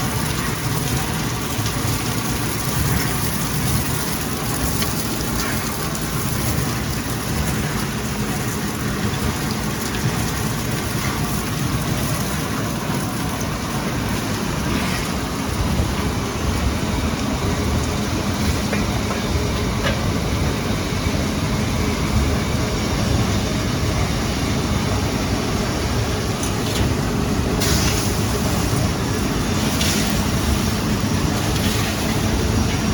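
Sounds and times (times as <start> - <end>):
industrial machine running: 0.0 - 32.9.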